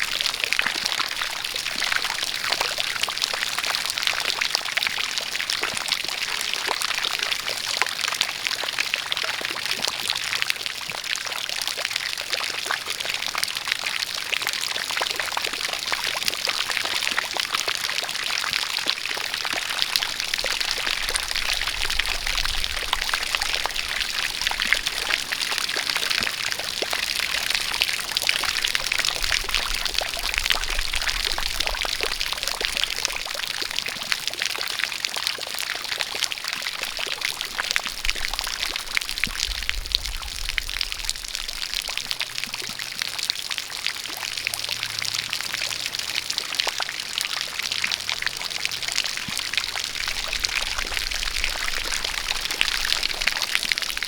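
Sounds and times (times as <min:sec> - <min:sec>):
rain falling: 0:00.0 - 0:54.0
water pouring from spout: 0:00.0 - 0:54.0.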